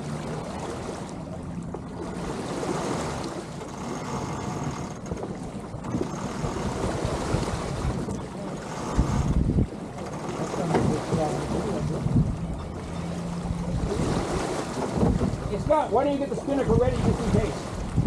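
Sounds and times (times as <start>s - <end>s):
water lapping along boat hulls: 0.0s - 18.0s
wind rumble on microphone: 0.0s - 18.0s.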